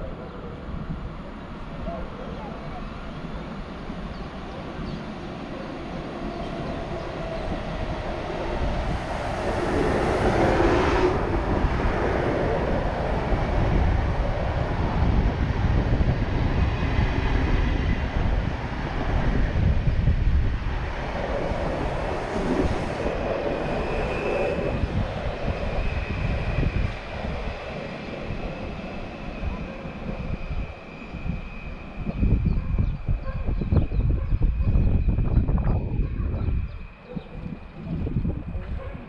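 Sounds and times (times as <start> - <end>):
train wheels rumbling on rails: 0.8 - 39.0.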